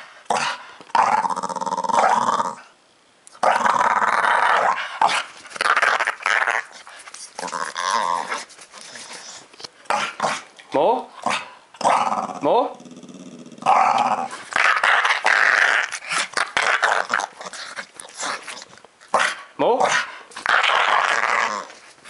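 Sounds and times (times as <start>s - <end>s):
dog growling playfully: 0.2s - 2.7s, 3.4s - 9.1s, 11.2s - 21.8s.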